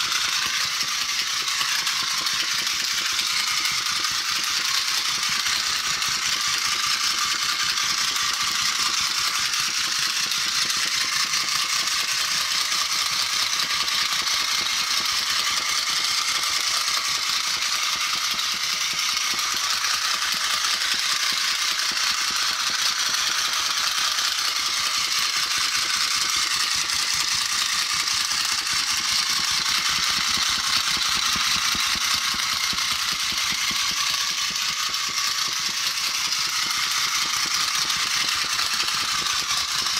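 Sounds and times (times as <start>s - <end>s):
toy motor rattling whir: 0.0s - 39.9s.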